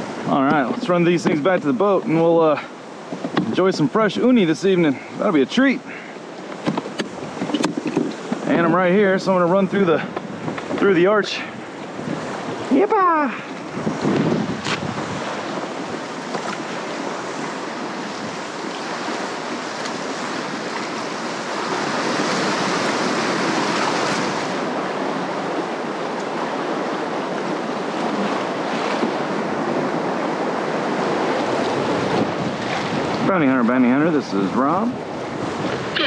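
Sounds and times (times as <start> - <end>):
sea water rushing: 0.0 - 36.0
wind on microphone: 6.4 - 36.0.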